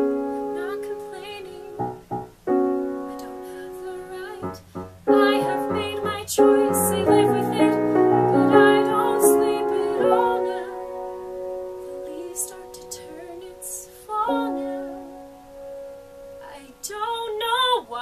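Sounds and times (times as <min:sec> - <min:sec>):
woman singing a ballad: 0:00.0 - 0:01.9, 0:02.9 - 0:11.2, 0:11.8 - 0:15.2, 0:16.4 - 0:18.0
piano accompaniment: 0:00.0 - 0:18.0.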